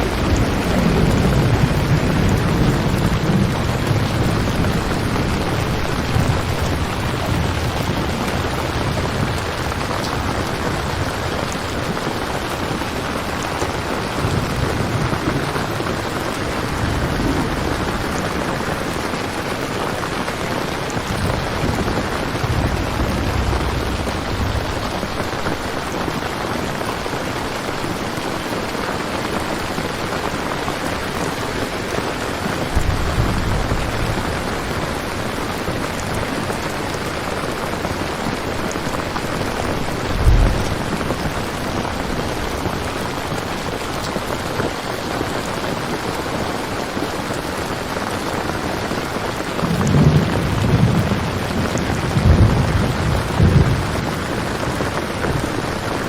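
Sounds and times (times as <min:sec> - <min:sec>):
thunder rumbling: 0:00.0 - 0:27.8, 0:30.9 - 0:46.4, 0:48.4 - 0:56.0
steady rain: 0:00.0 - 0:56.0.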